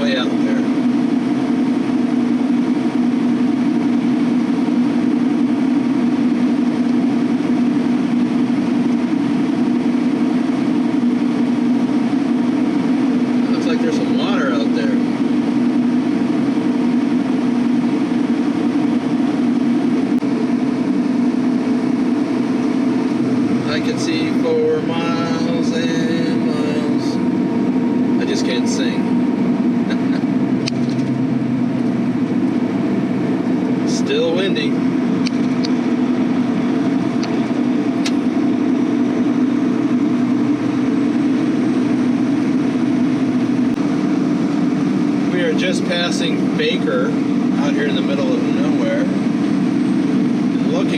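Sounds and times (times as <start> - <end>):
truck engine and road noise: 0.0 - 50.9.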